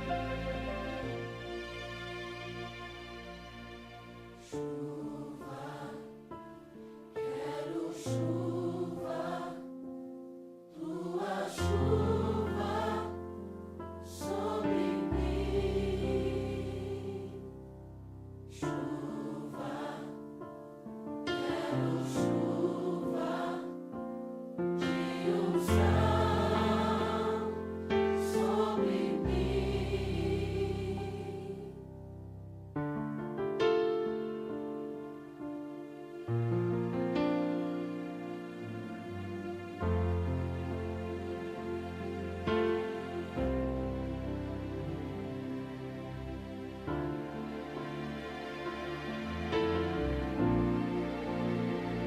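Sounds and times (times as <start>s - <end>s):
choir singing: 0.0s - 9.9s, 10.7s - 17.6s, 18.5s - 20.6s, 21.2s - 24.2s, 24.8s - 32.0s, 36.9s - 52.0s.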